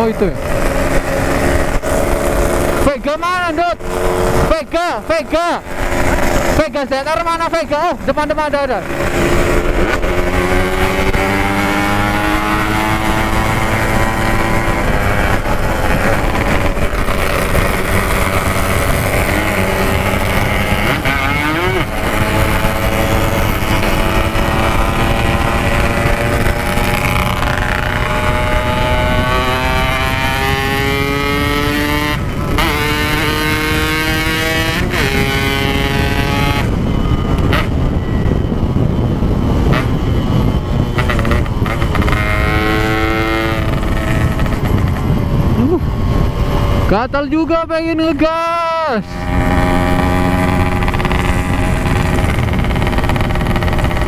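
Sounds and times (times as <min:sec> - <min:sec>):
two-stroke motorcycle engine: 0:00.0 - 0:47.1, 0:48.3 - 0:54.0
wind rushing over microphone: 0:00.0 - 0:54.0.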